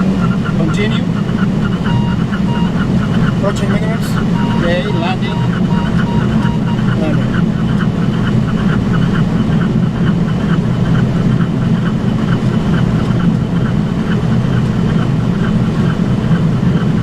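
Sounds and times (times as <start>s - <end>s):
rapid even ticking: 0.0s - 17.0s
roar of airflow and engines: 0.0s - 17.0s
windscreen wipers running: 0.0s - 17.0s.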